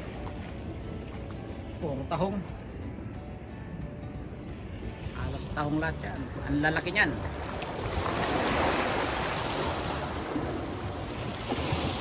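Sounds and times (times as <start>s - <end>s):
sea surf on rocky shore: 0.0s - 3.1s, 4.2s - 12.0s.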